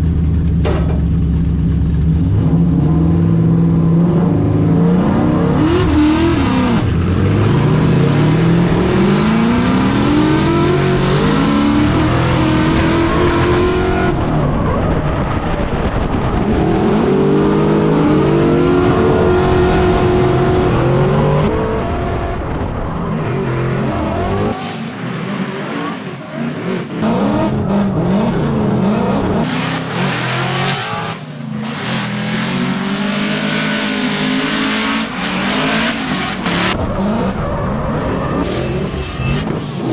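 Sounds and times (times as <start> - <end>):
car engine revving hard: 2.2 - 39.9.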